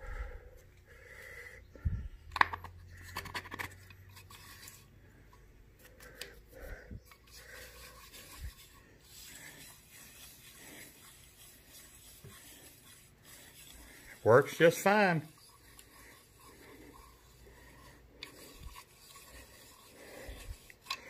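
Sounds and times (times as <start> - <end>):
faint rubbing and scraping: 1.7 - 21.0.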